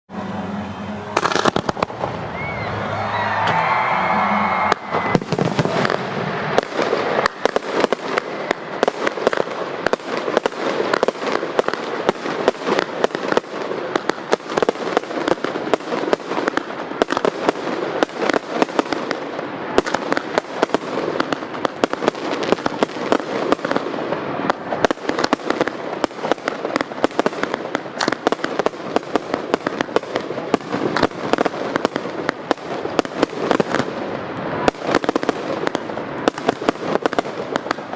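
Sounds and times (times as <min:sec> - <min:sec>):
fireworks bangs: 0:00.1 - 0:37.9.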